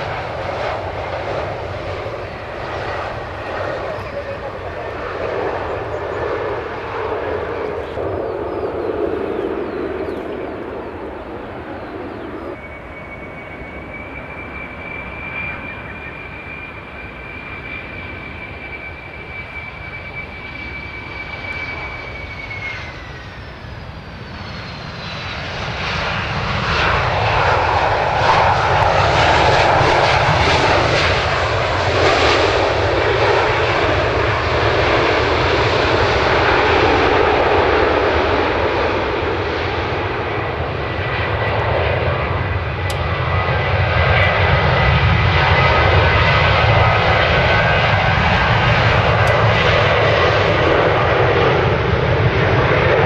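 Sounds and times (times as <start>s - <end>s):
jet engine high whine: 0.0s - 53.0s
jet roar: 0.0s - 53.0s.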